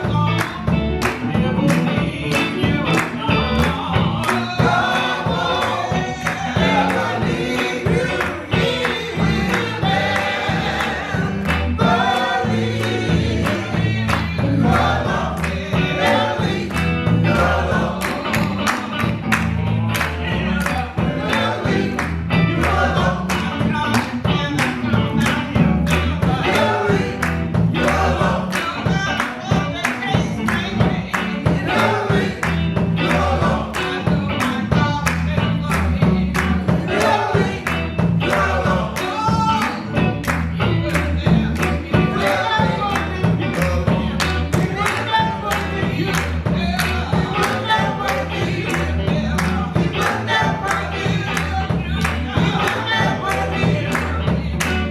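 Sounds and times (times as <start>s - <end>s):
bass line: 0.0s - 54.9s
drum beat: 0.0s - 54.9s
gospel choir singing: 0.0s - 54.9s.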